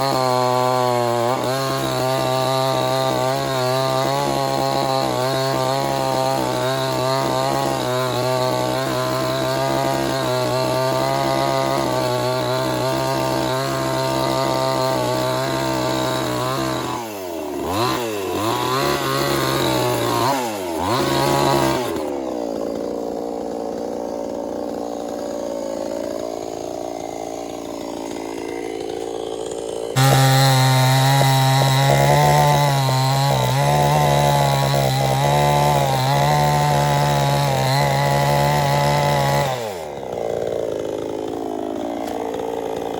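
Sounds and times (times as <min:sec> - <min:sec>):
chainsaw engine running: 0:00.0 - 0:42.9.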